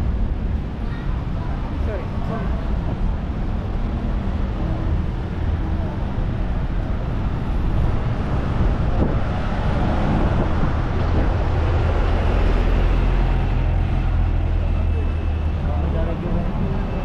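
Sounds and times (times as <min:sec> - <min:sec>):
bus engine humming: 0:00.0 - 0:17.0
road traffic rumbling: 0:00.0 - 0:17.0.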